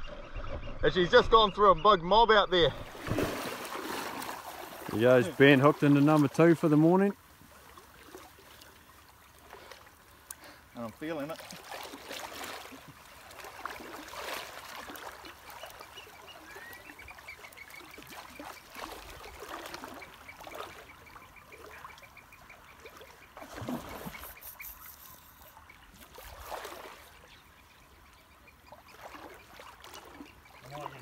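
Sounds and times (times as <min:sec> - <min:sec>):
water sloshing around legs: 0:02.8 - 0:06.6, 0:07.2 - 0:31.0.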